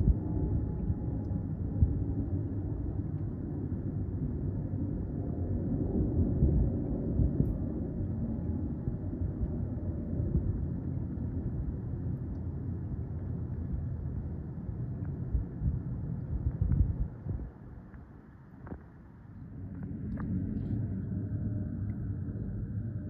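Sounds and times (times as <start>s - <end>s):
jet aircraft rumble overhead: 0.0s - 23.0s.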